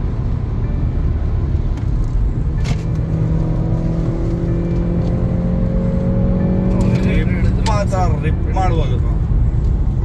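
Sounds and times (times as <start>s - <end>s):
car engine accelerating: 0.0s - 10.0s
road rumble: 0.0s - 10.0s.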